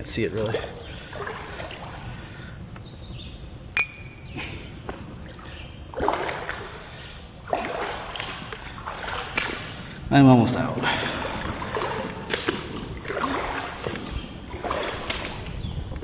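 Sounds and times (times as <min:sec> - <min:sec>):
boots wading through water: 0:00.0 - 0:02.8, 0:04.3 - 0:16.0.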